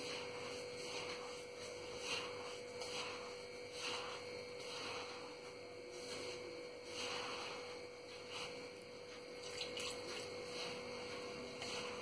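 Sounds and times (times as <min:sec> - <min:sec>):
faint electrical hum: 0:00.0 - 0:12.0
hand kneading damp flour: 0:00.0 - 0:12.0.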